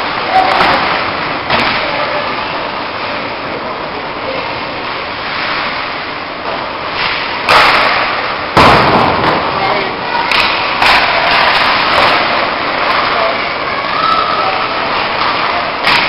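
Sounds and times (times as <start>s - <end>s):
skating and rink noise: 0.0s - 16.0s.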